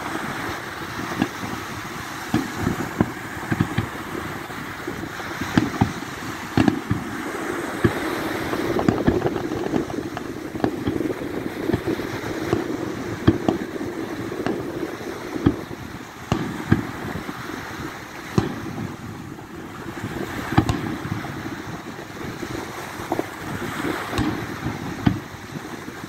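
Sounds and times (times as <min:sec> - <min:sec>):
firework shells bursting: 0:00.4 - 0:22.0, 0:22.8 - 0:25.9.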